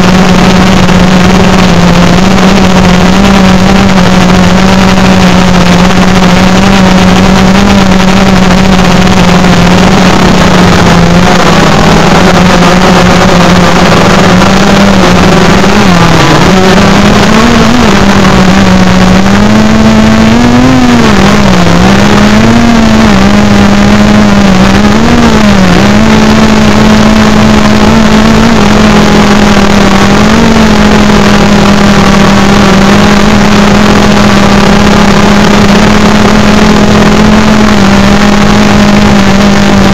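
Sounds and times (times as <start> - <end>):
drone propellers humming: 0.0 - 39.9.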